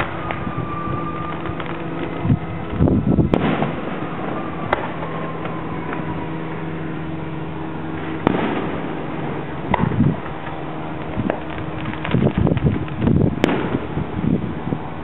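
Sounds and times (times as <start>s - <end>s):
fireworks bursting: 0.0s - 15.0s
steady low hum: 0.0s - 15.0s.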